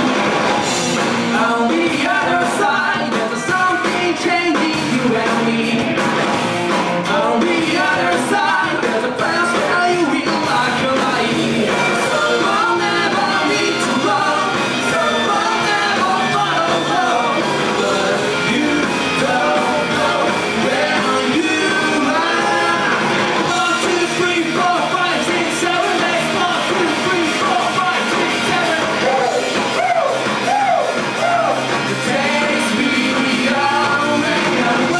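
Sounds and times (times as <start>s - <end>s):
rock band playing live: 0.0s - 34.9s
person singing: 1.3s - 6.2s, 7.0s - 34.9s.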